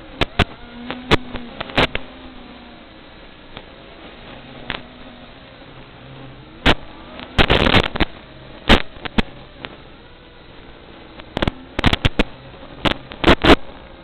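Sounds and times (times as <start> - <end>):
drone motors whining: 0.0 - 14.0
loud sharp crackles: 0.0 - 14.0.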